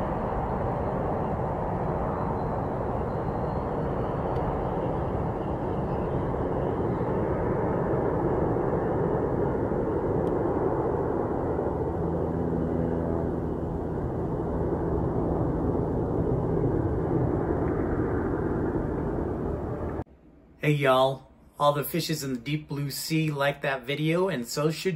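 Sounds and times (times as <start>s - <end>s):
jet engines rumbling: 0.0s - 24.9s
low hum: 0.0s - 24.9s.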